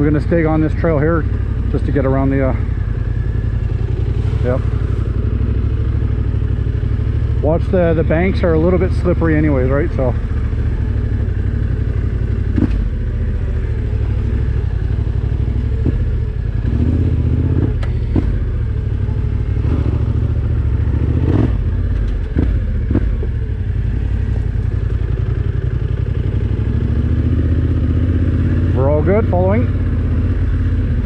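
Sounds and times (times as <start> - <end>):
motorcycle engine low revs: 0.0 - 31.0.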